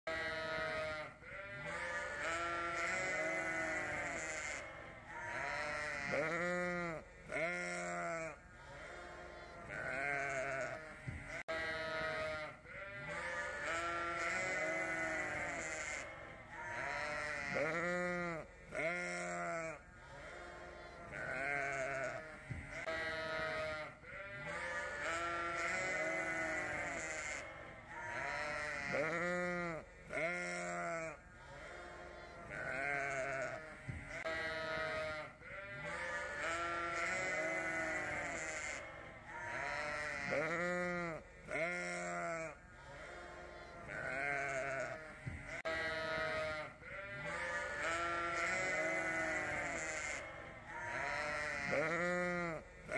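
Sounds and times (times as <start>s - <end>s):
sheep and lambs bleating: 0.1s - 52.9s.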